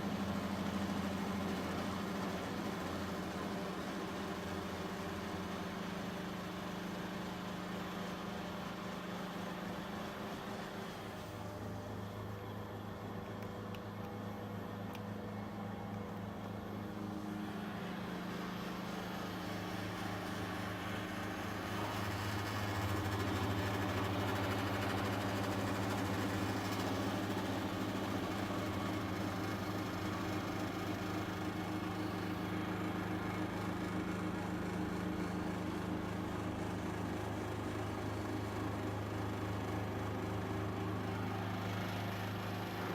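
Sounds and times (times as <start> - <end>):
steady machine hum: 7.5 - 42.9.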